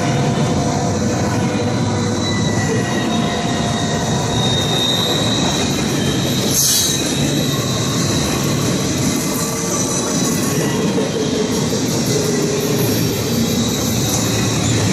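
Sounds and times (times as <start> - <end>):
steel wheels rumbling on rails: 0.0 - 14.9
high wheel squeal: 1.8 - 14.9.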